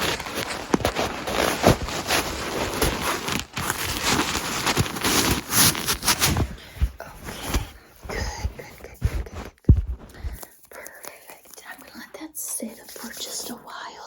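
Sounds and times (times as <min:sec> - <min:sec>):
scratching and crackling: 0:00.0 - 0:14.0.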